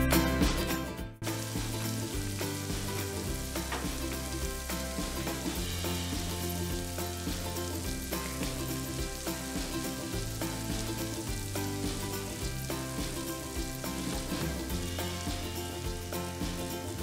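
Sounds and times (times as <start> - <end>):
food sizzling with small pops: 1.2 - 17.0.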